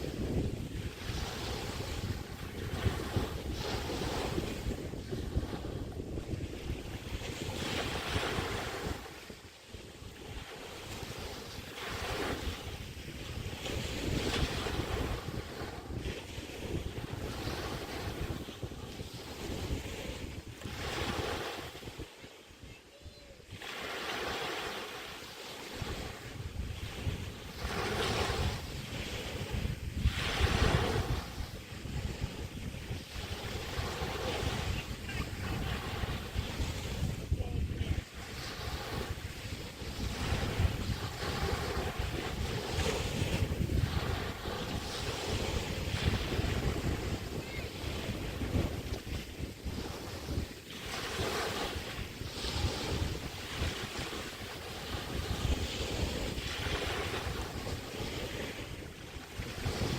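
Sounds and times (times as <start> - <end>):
small waves breaking on beach: 0.0 - 59.9
wind rumbling on microphone: 0.0 - 59.9.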